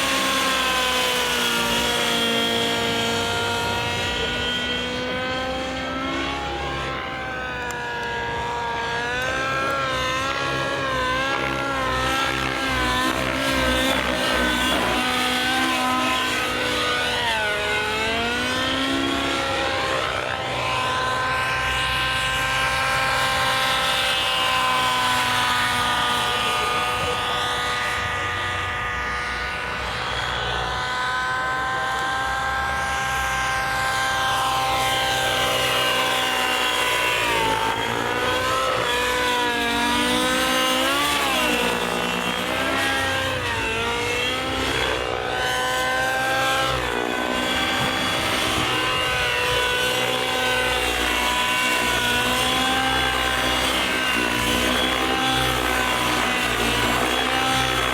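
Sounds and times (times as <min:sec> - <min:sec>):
model airplane engine droning: 0:00.0 - 0:57.9.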